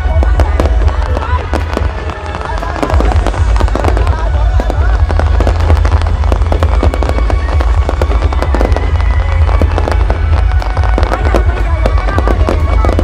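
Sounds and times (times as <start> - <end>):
fireworks pops and crackles: 0.0 - 13.0
low rumble: 0.0 - 13.0.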